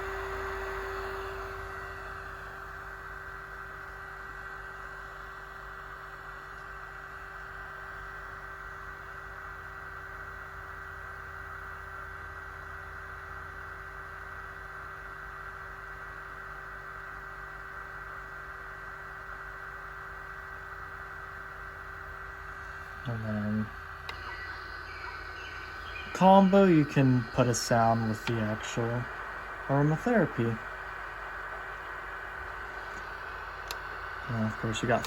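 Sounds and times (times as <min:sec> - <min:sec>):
faint steady whine: 0:00.0 - 0:35.0
fan electric hum: 0:00.0 - 0:35.0.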